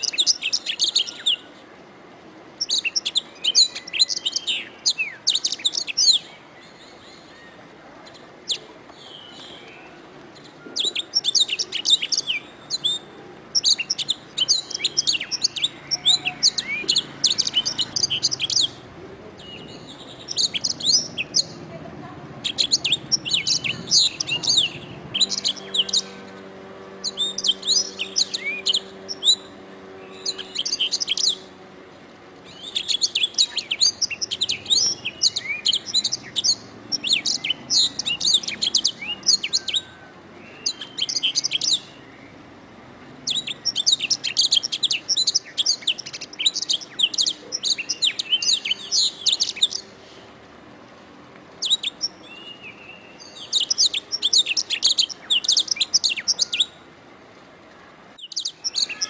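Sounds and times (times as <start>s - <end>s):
canary singing trilled phrases: 0.0s - 1.6s, 2.6s - 7.4s, 8.0s - 31.6s, 32.4s - 42.4s, 43.2s - 49.9s, 51.6s - 56.8s, 58.2s - 59.0s.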